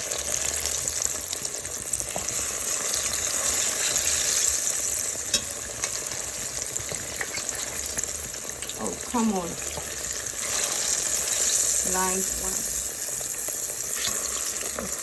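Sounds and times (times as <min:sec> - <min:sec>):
plantain sizzling in hot oil: 0:00.0 - 0:15.0.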